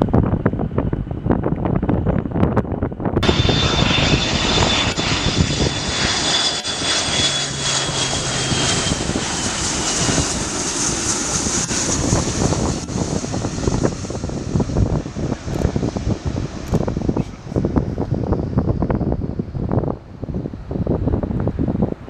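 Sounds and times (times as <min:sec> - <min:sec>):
jet airliner engines whining: 0:00.0 - 0:22.0
wind buffeting microphone: 0:00.0 - 0:22.0.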